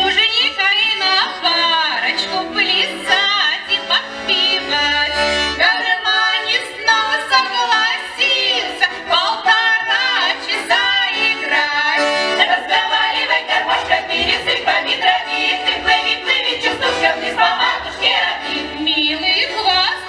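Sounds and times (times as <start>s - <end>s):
button accordion: 0.0s - 20.0s
women's choir singing folk song: 0.0s - 20.0s.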